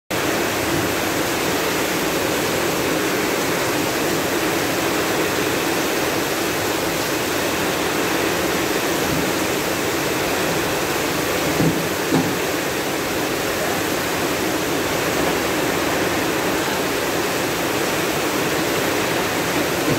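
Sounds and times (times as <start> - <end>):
heavy rain pouring: 0.1 - 19.9.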